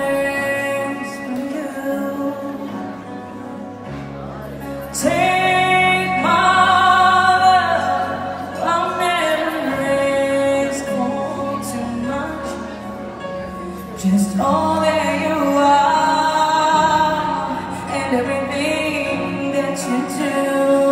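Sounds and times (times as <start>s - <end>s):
woman singing a ballad: 0.0s - 3.3s, 4.8s - 13.0s, 13.8s - 20.9s.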